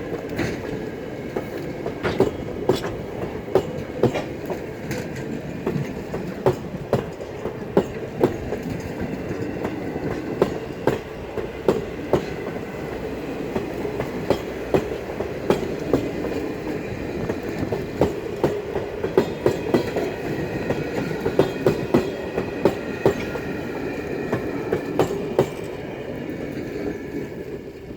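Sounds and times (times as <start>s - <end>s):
train wheels clicking over rail joints: 0.0s - 27.9s.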